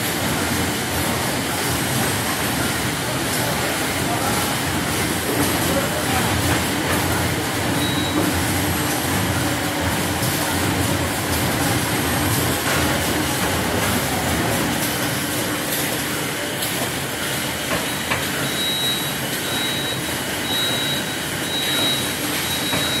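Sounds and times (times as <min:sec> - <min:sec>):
machinery clatter: 0:00.0 - 0:18.8.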